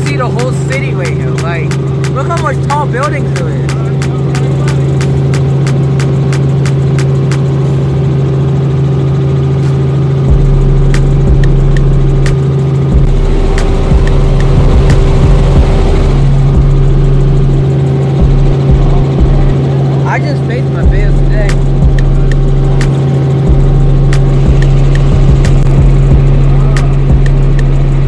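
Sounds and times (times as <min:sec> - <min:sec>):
aircraft engine droning: 0:00.0 - 0:28.0.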